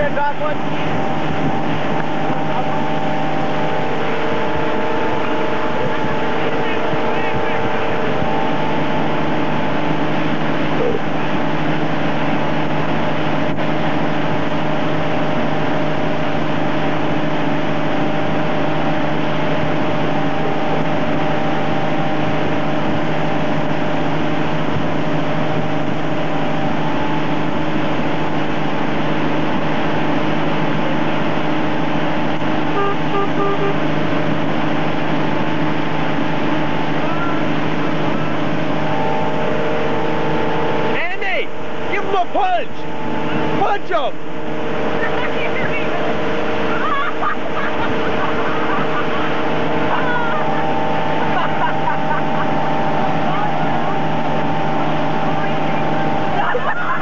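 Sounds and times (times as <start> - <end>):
boat wake rushing: 0.0 - 57.0
motorboat engine droning: 0.0 - 57.0
wind: 0.0 - 57.0.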